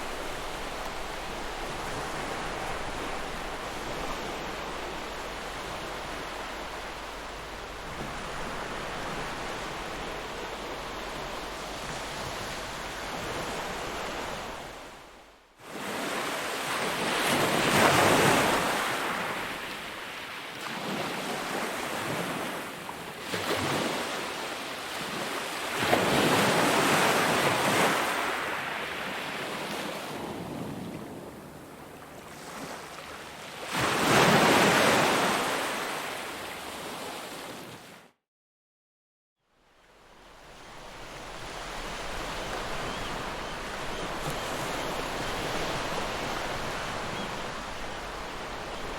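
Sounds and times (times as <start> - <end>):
ocean waves washing ashore: 0.0 - 38.0, 39.6 - 48.9.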